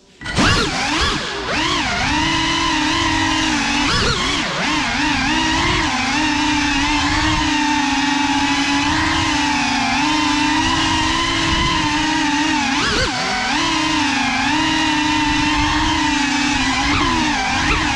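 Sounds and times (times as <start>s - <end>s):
drone motors high whine: 0.0s - 17.9s.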